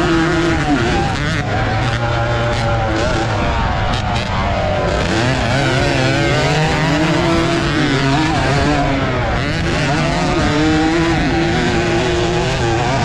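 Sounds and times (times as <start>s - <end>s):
motorcycle engine at high revs: 0.0s - 13.0s
steady rush of noise: 0.0s - 13.0s.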